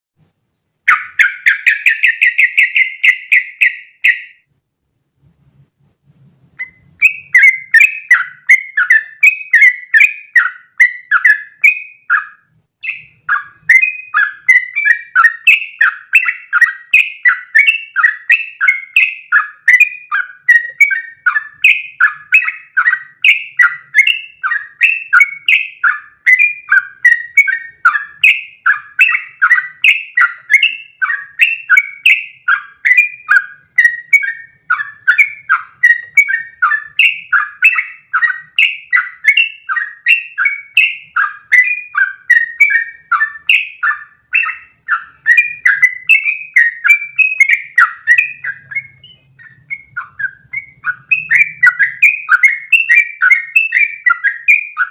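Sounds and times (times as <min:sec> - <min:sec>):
bird trilling: 0:00.8 - 0:04.5, 0:06.6 - 0:54.9.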